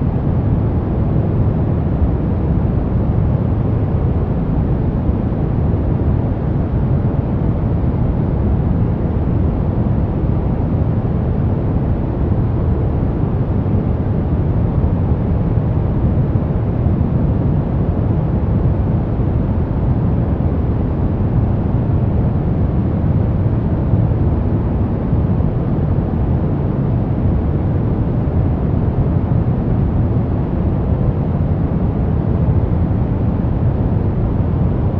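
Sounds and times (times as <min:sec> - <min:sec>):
deep steady relaxation noise: 0:00.0 - 0:34.9.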